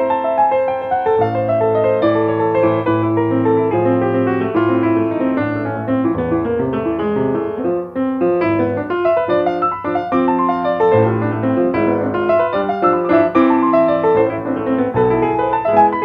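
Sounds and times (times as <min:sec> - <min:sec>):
grand piano playing quick notes: 0:00.0 - 0:16.0.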